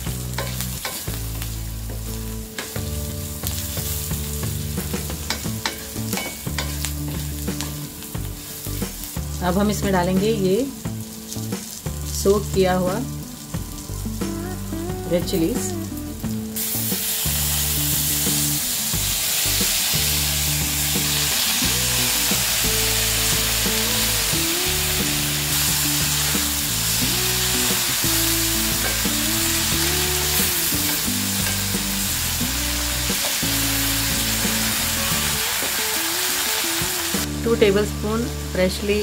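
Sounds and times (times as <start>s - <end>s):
chillies sizzling in hot oil: 0.0s - 39.0s.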